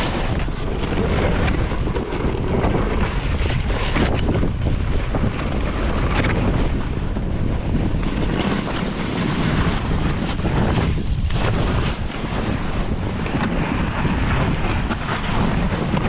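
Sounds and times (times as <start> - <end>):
snowboard scraping over snow: 0.0 - 16.0
wind on microphone: 0.0 - 16.0.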